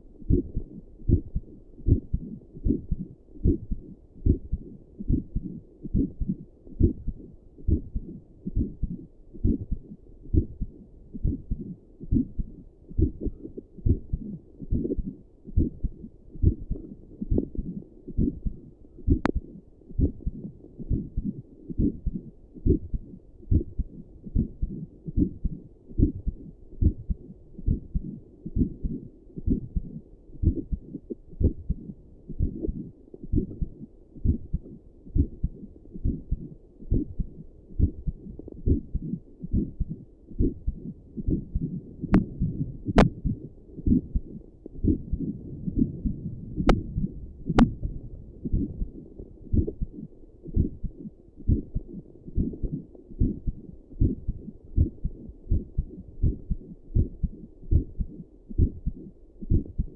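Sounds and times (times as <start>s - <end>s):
heartbeat through stethoscope: 0.0s - 59.9s.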